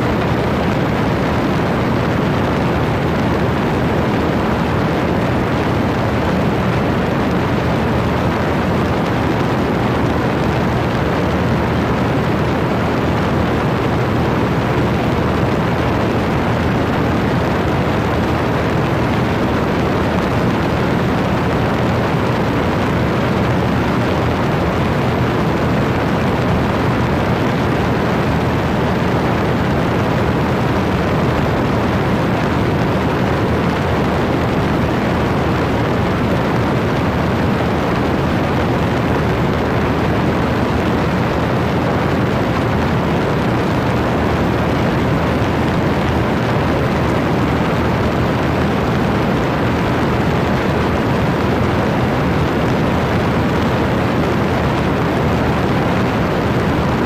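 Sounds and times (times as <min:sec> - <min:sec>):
airplane engine and propeller drone: 0:00.0 - 0:57.0
wind rush on microphone: 0:00.0 - 0:57.0.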